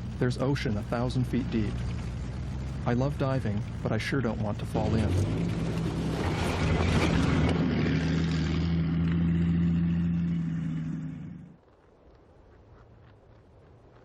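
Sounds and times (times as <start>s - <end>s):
over-snow vehicle engine running: 0.0s - 11.6s.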